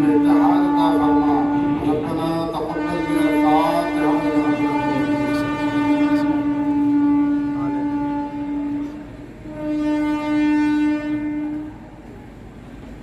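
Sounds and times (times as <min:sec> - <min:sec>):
train horn blasts: 0:00.0 - 0:13.0.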